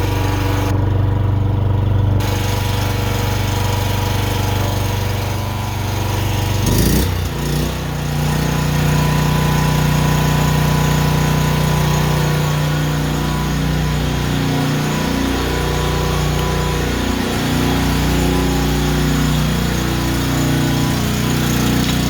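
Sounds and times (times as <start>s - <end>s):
portable generator engine running: 0.0s - 22.0s.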